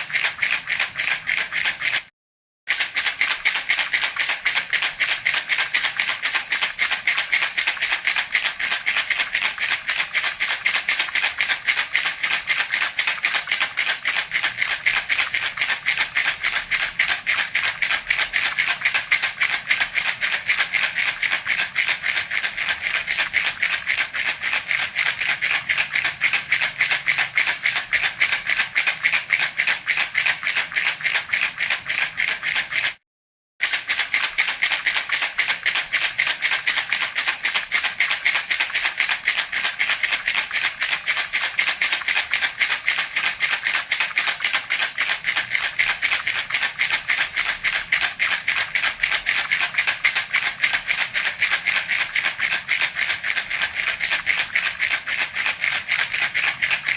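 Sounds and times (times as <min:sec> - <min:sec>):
baby rattle shaken: 0:00.0 - 0:02.1, 0:02.7 - 0:33.0, 0:33.6 - 0:56.9.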